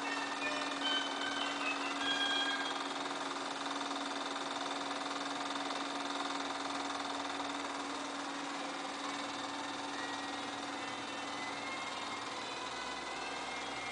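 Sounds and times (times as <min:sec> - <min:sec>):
film projector whirring: 0:00.0 - 0:13.9.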